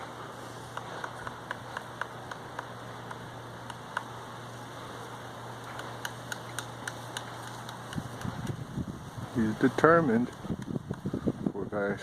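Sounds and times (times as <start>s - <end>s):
steady low hum: 0.0s - 12.0s
woodpecker tapping on wood: 0.6s - 8.6s, 9.7s - 11.3s.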